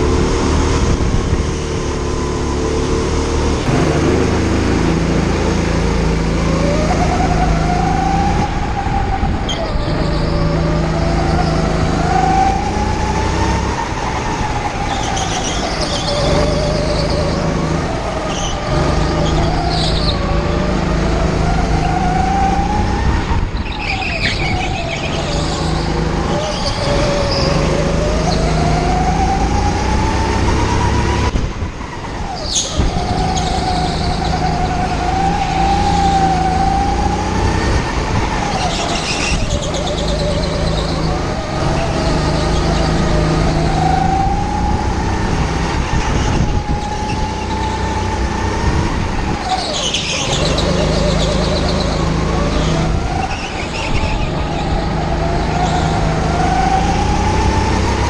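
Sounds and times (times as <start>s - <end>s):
go-kart motor running: 0.0s - 58.0s.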